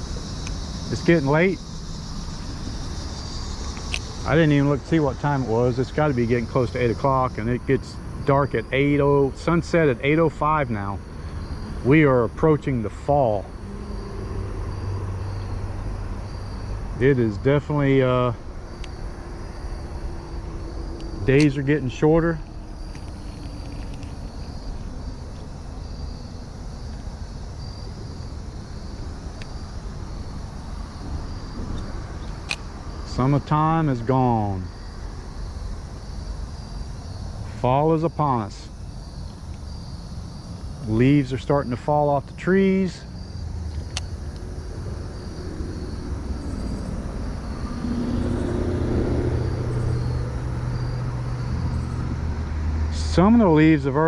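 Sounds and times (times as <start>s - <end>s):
steady low rumble: 0.0s - 37.7s, 43.1s - 51.6s
crickets trilling: 0.0s - 54.0s
insects chirping: 0.0s - 54.0s.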